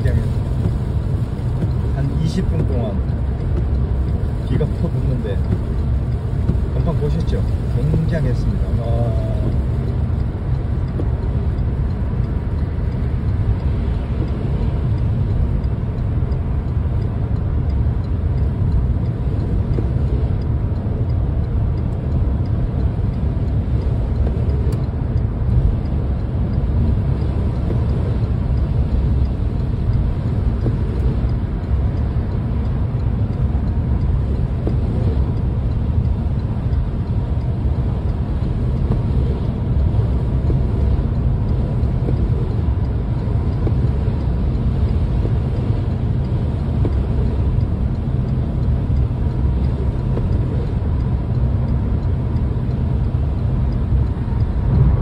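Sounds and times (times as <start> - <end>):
car road noise on wet pavement: 0.0 - 55.0.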